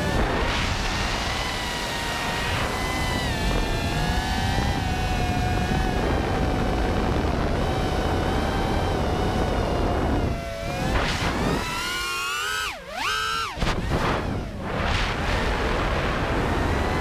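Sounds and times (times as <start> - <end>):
wind rumble on microphone: 0.0 - 12.1, 13.5 - 17.0
drone motors whining: 0.0 - 17.0.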